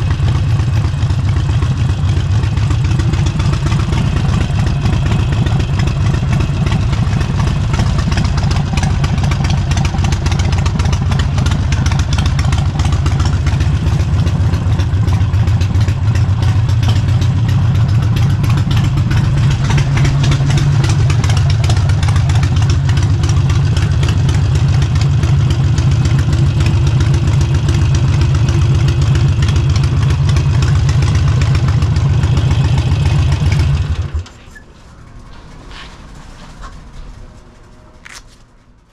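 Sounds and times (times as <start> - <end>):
motorcycle engine running: 0.0 - 34.3.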